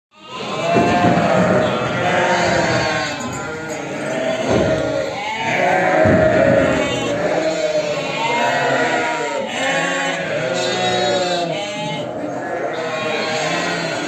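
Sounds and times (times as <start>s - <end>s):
sheep and lambs bleating: 0.1s - 14.0s.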